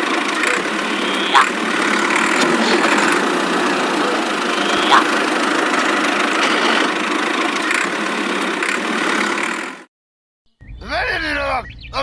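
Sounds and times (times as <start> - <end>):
small tractor engine running: 0.0 - 9.9.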